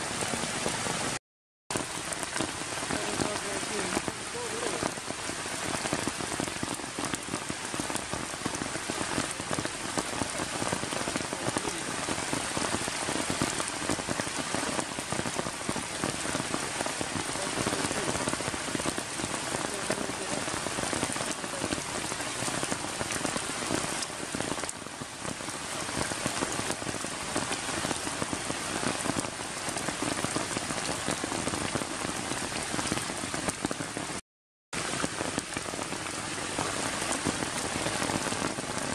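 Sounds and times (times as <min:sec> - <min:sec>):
rain on grass and puddles: 0:00.0 - 0:38.9.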